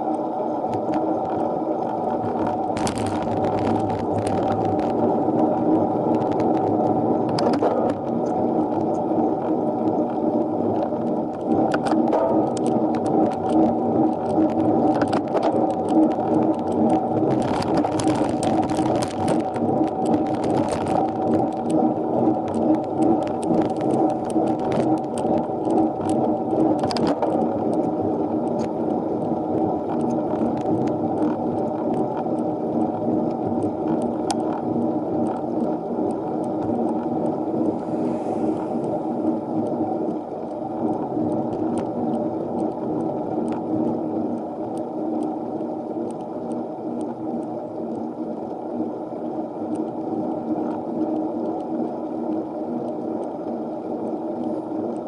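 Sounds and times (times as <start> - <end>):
bicycle riding noise: 0.0 - 55.0
faint ticks: 6.1 - 48.6, 49.6 - 55.0.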